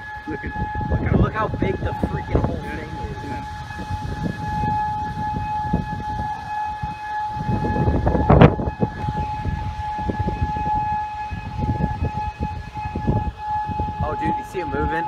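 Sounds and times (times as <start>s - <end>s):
warning siren steady tone: 0.0s - 15.0s
wind rumbling on microphone: 0.0s - 15.0s.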